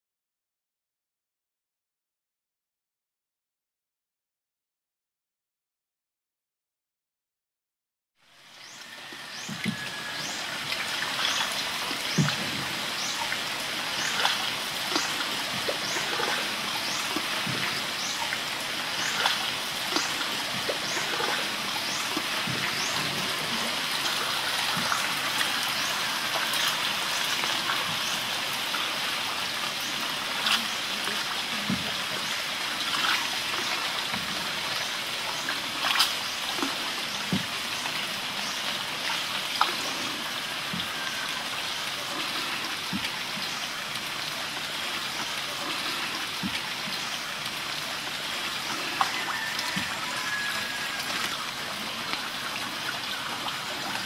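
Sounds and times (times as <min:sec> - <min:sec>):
water trickling and lapping: 0:08.4 - 0:54.0
drips and small splashes: 0:08.5 - 0:54.0.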